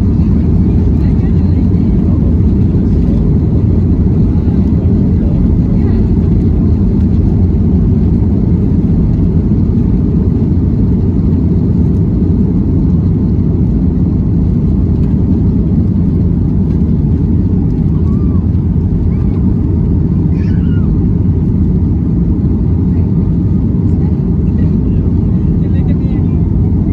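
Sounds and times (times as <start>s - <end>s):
jet engines roaring at takeoff: 0.0s - 26.9s
takeoff roll rumble: 0.0s - 26.9s.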